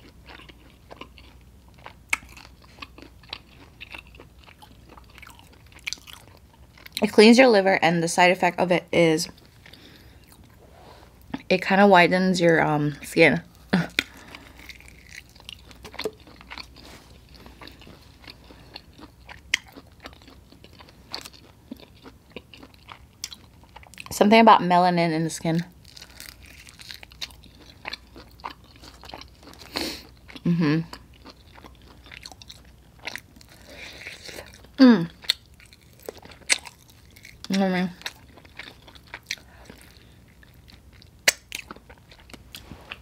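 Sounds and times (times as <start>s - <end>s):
chewing crunches and clicks: 0.0s - 7.1s, 13.9s - 24.1s, 25.8s - 43.0s.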